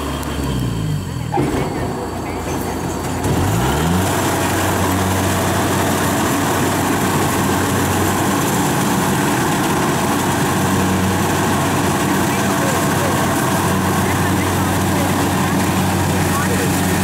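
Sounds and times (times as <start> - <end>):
combine harvester engine hum: 0.0 - 17.0
steady mechanical threshing noise: 0.0 - 17.0.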